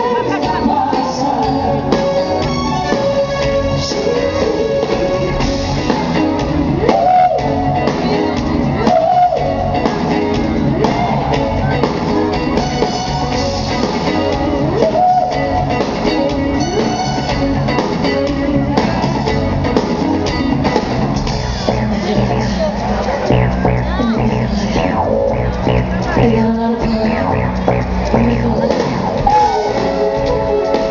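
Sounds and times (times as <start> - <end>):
drum kit groove: 0.0 - 30.9
electric guitar: 0.0 - 30.9.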